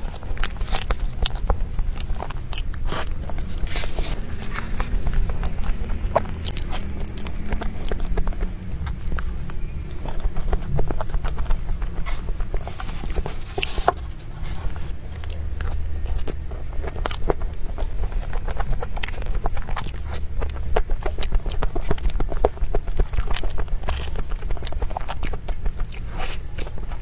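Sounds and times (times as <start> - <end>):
steady low rumble: 0.0 - 27.0
wet chewing mouth clicks: 0.0 - 27.0.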